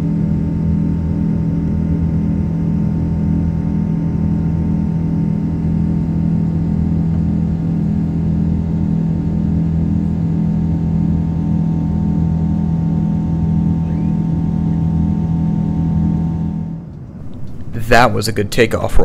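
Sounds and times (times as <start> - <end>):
jet engines droning in cabin: 0.0 - 19.0.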